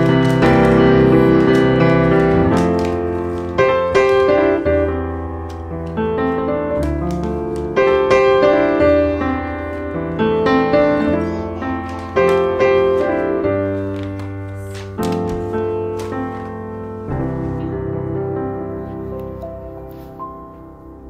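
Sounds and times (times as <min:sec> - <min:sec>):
calm piano music: 0:00.0 - 0:21.0.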